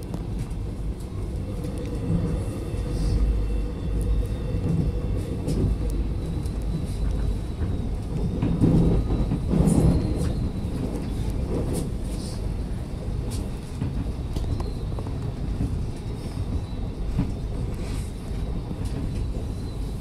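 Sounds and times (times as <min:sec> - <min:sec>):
train wheels rumbling on track: 0:00.0 - 0:20.0.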